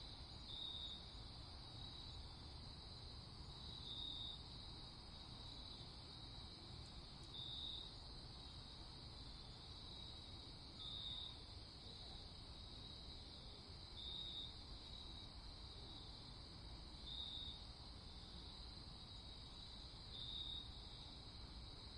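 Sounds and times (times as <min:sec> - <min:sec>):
crickets trilling: 0:00.0 - 0:21.9
loud cricket chirp: 0:00.0 - 0:21.9
low faint background hum: 0:00.0 - 0:21.9.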